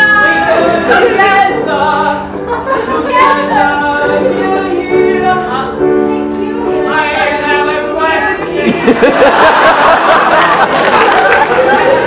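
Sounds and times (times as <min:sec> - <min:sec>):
group of voices singing: 0:00.0 - 0:10.1.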